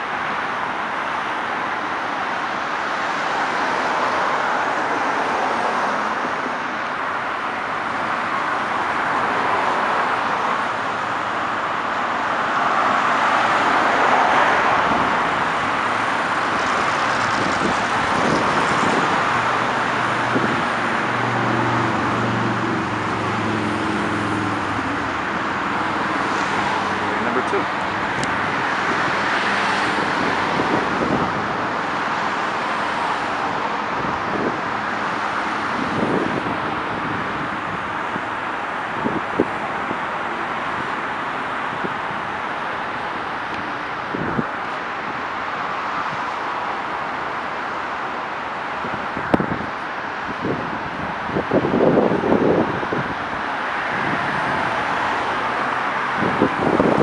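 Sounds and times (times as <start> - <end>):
highway traffic rush: 0.0 - 57.0.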